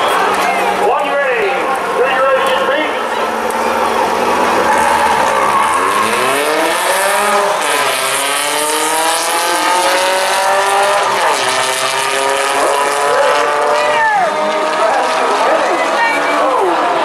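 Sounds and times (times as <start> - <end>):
car engines accelerating: 0.0 - 17.0.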